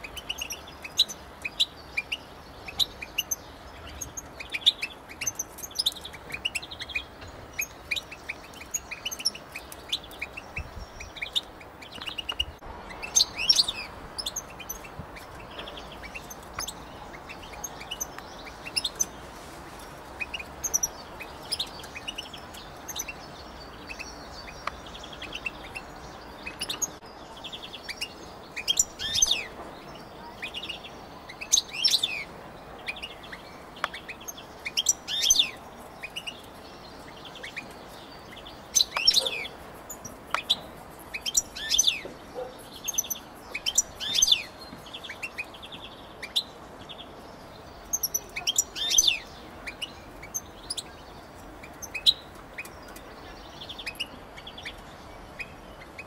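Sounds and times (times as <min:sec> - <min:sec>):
finch twittering song: 0:00.0 - 0:56.0.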